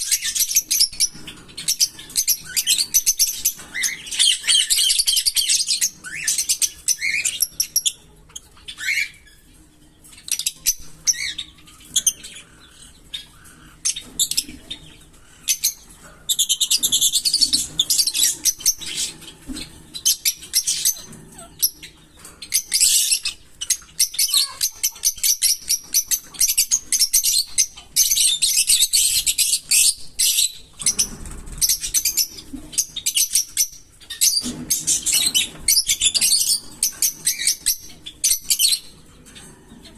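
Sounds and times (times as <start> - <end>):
parrots chattering: 0.0 - 39.9.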